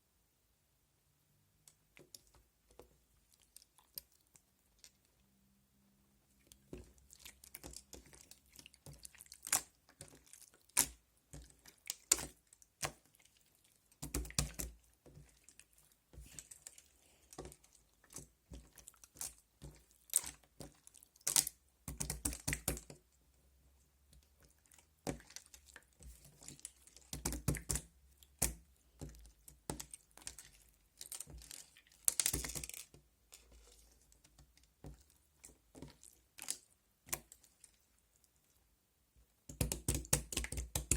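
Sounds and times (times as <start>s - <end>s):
slime squishing by hand: 6.2s - 38.7s, 39.3s - 40.9s.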